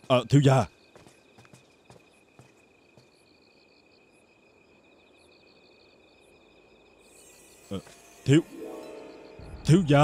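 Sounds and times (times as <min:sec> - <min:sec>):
crickets trilling: 0:00.0 - 0:10.0
short high cricket chirp: 0:00.2 - 0:10.0.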